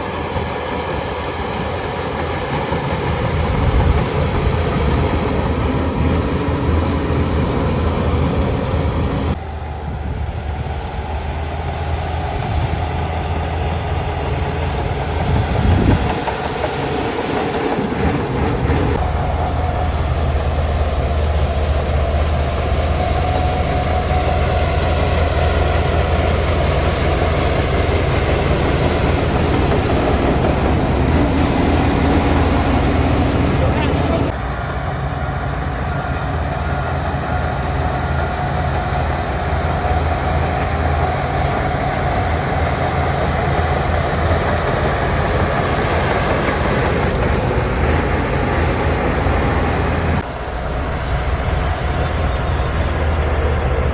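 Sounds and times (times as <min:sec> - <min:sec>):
heavy diesel engines droning: 0:00.0 - 0:53.9.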